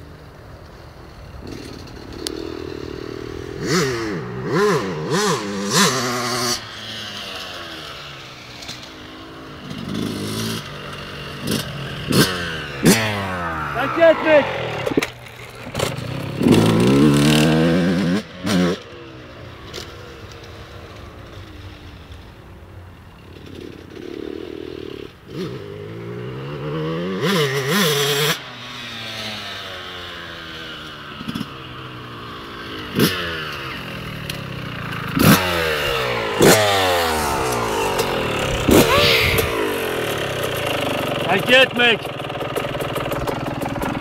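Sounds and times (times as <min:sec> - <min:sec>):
dirt bike engine revving: 0:01.1 - 0:44.0.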